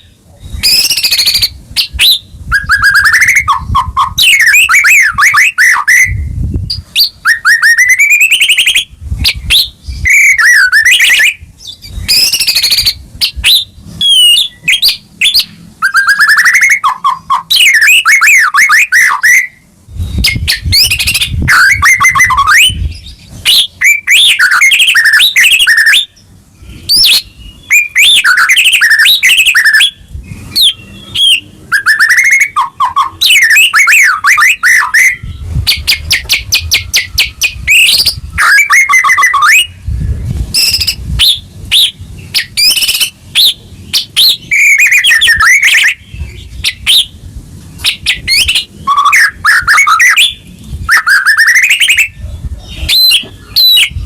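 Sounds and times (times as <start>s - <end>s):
bird singing whistled phrases and trills: 0.0s - 47.2s, 47.8s - 54.0s.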